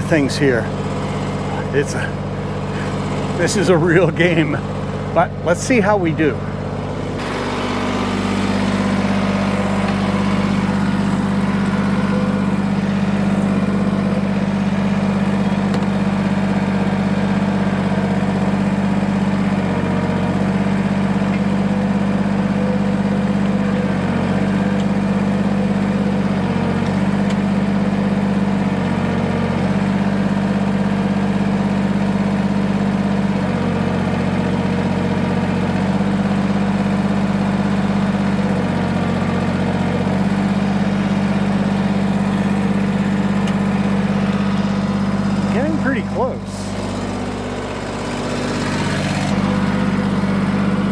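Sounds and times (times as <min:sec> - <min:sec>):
tractor diesel engine straining: 0:00.0 - 0:50.9.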